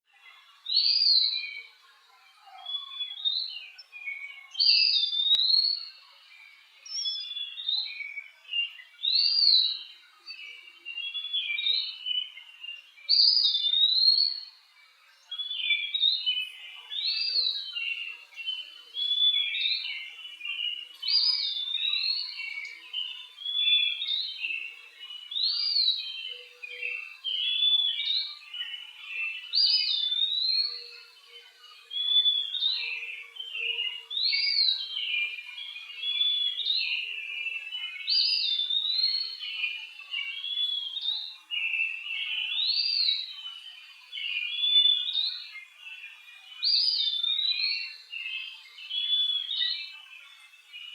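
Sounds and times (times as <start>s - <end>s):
bird whistling song: 0.6s - 6.1s, 6.8s - 50.9s.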